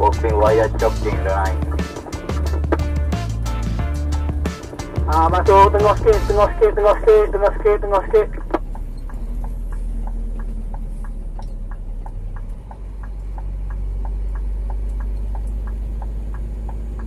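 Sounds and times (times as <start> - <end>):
diesel truck engine running: 0.0 - 17.0
flasher relay ticking: 0.0 - 17.0.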